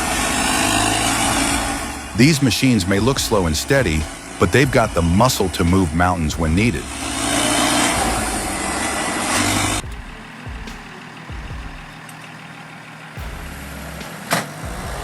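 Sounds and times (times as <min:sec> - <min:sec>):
loud hiss: 0:00.0 - 0:12.0, 0:13.2 - 0:15.0
heavy machine engine running: 0:00.0 - 0:15.0.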